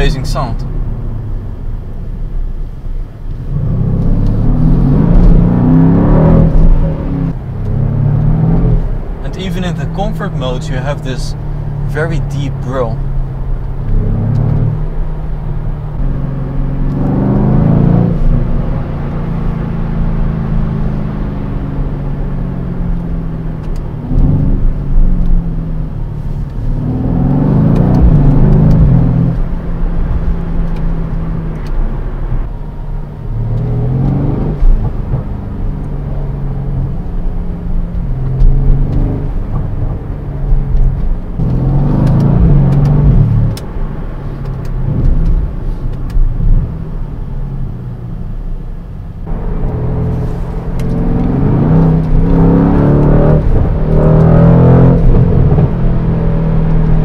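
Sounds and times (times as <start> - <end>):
car engine growling inside cabin: 0.0 - 57.0.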